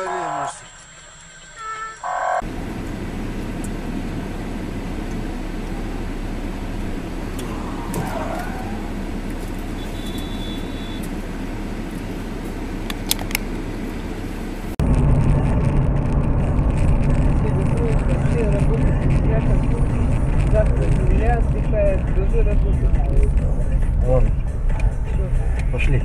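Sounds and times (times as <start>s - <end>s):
car engine and road noise: 0.0s - 26.0s
traffic noise: 0.0s - 26.0s.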